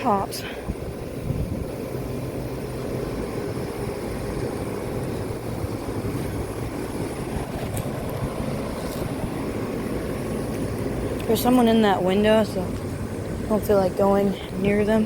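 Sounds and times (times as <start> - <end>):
compressor hum: 0.0 - 15.0
condenser fans whooshing: 0.0 - 15.0.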